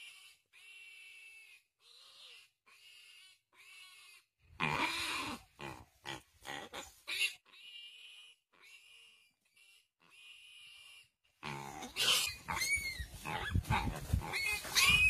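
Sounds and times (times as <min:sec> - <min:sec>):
piglet squealing: 0:00.0 - 0:05.5, 0:06.1 - 0:15.0.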